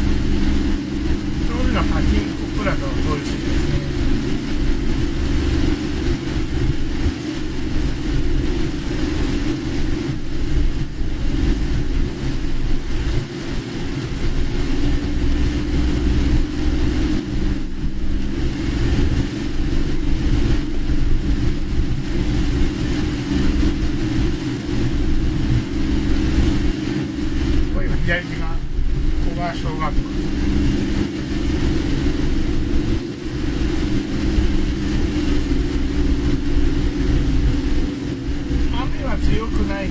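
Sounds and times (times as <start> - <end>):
car engine and road rumble: 0.0 - 39.9
heavy rain on wet road: 0.0 - 39.9.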